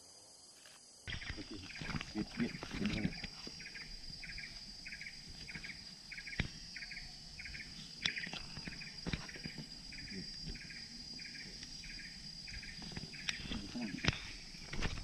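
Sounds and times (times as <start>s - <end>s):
insect chirping call: 0.0s - 15.0s
insects droning: 0.0s - 15.0s.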